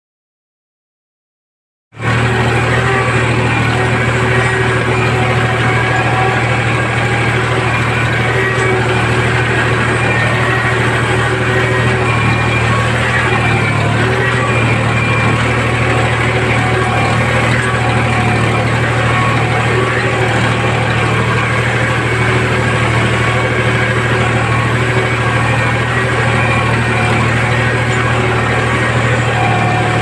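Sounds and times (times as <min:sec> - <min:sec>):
tractor diesel engine running: 0:02.0 - 0:30.0.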